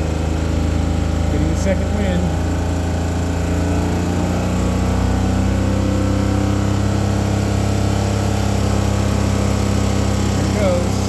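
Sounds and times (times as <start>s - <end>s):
engine at high rpm: 0.0s - 11.0s.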